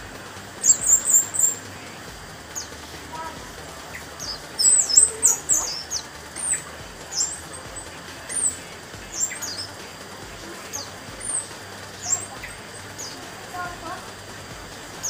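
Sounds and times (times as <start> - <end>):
thrush singing: 0.0 - 15.0.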